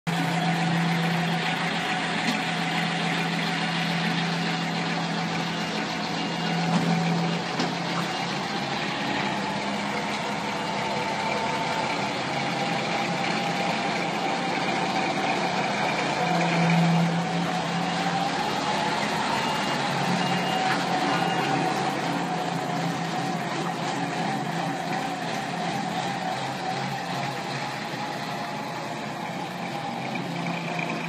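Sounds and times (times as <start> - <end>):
diesel truck engine running: 0.1 - 31.0.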